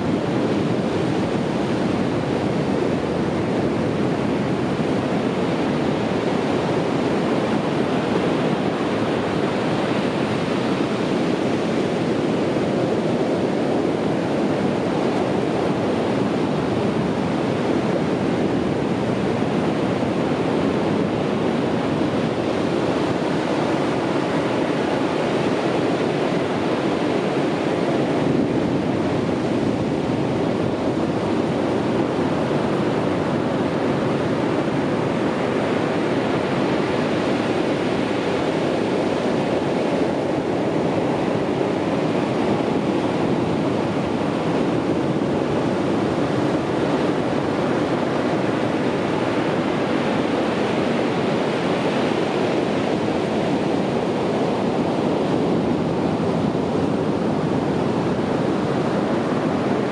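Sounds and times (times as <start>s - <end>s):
sea waves washing on beach: 0.0s - 59.9s.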